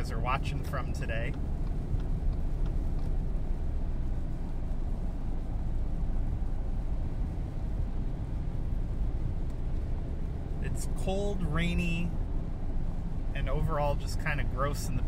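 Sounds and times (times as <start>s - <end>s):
car engine: 0.0s - 15.0s
tyre and road noise on wet road: 0.0s - 15.0s.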